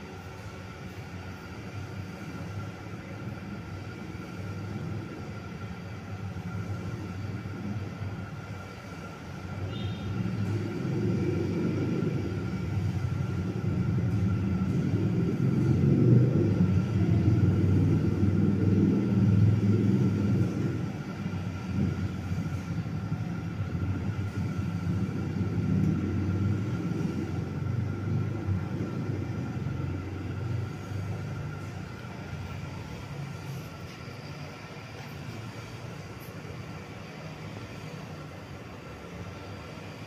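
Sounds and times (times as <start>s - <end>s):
faint fan whine: 0.0s - 40.0s
fan draught buffeting microphone: 0.0s - 40.0s.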